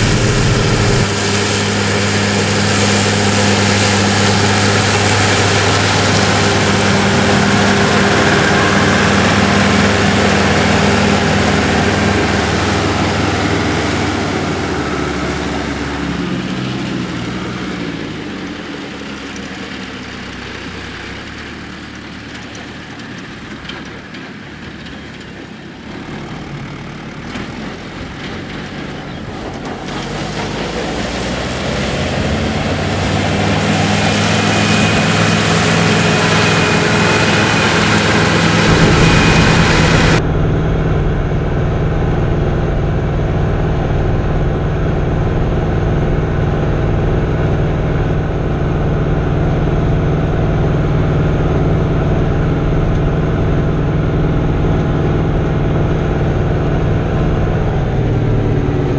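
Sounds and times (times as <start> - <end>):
muffled engine drone: 0.0 - 58.9
tractor engine under load: 0.0 - 58.9.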